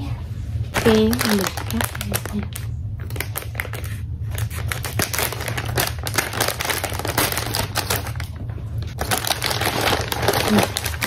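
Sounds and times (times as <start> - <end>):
plastic bag crinkling: 0.7 - 11.0.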